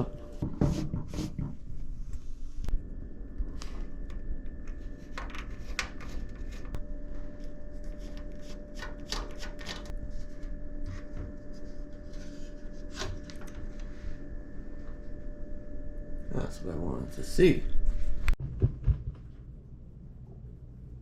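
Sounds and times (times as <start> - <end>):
faint steady hum: 1.4 - 18.4.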